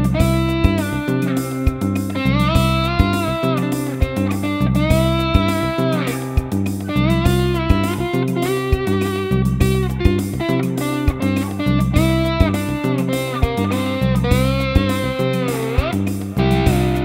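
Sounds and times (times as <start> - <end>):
bass notes: 0.0 - 17.0
slide guitar: 0.0 - 17.0
steady beat: 0.0 - 17.0.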